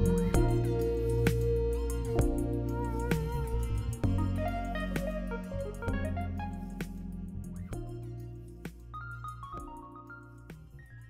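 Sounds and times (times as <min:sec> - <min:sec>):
instrumental background music: 0:00.0 - 0:11.0
soft beats: 0:00.0 - 0:11.0.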